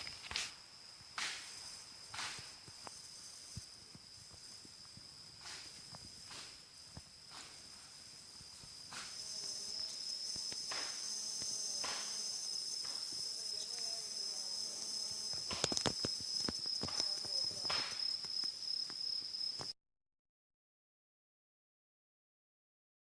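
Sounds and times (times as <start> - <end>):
crickets chirring: 0.0 - 19.8.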